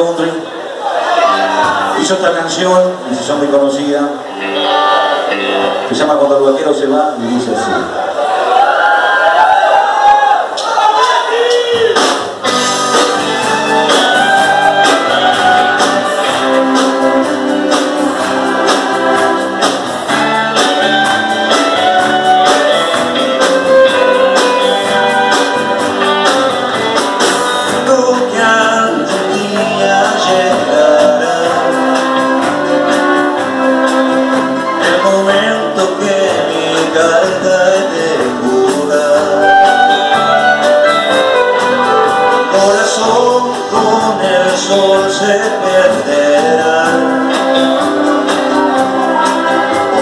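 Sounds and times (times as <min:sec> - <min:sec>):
country band playing: 0:00.0 - 0:10.0, 0:11.0 - 0:50.0.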